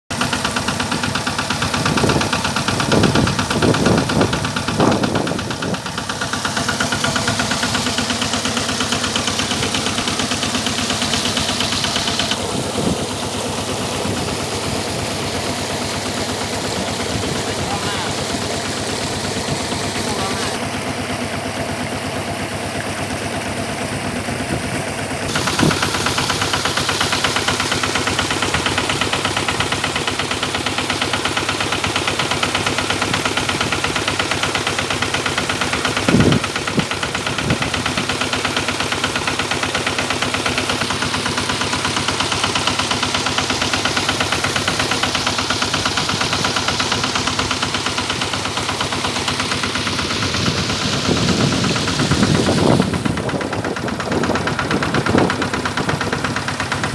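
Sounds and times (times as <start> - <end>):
water pump engine chugging: 0.1 - 56.9.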